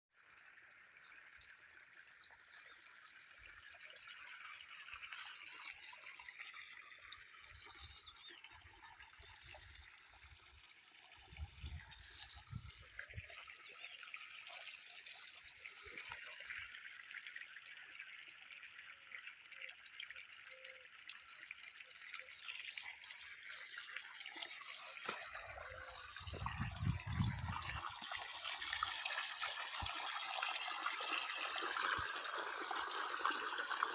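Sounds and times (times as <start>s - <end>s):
water running and trickling: 0.2s - 33.9s.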